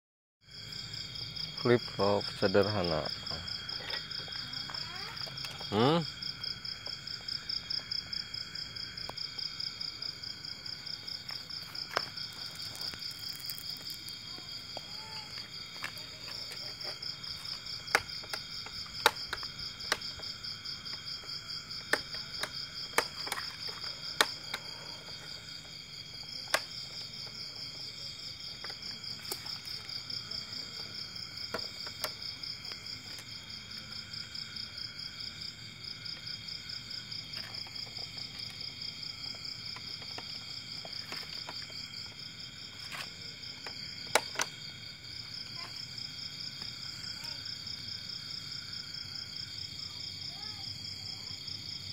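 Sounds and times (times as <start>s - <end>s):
faint insect tones: 0.5s - 51.9s
insects trilling: 0.5s - 51.9s.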